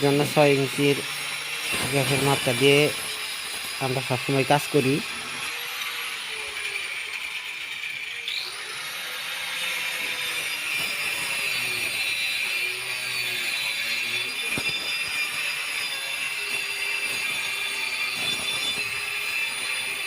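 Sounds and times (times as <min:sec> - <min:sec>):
power tool whining: 0:00.0 - 0:20.0.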